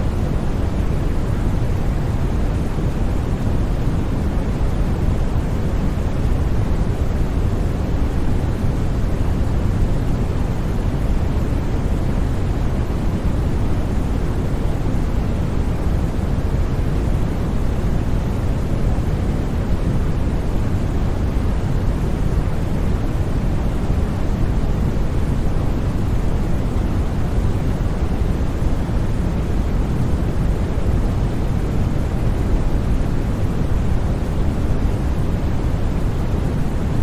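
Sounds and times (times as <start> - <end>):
steady white noise: 0.0 - 37.0.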